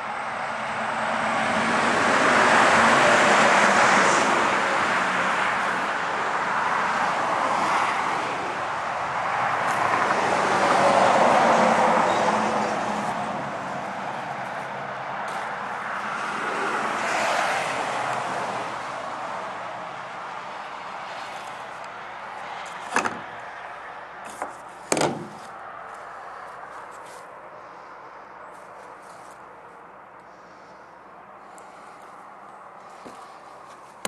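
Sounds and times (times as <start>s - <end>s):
passing vehicles rushing: 0.0s - 34.0s.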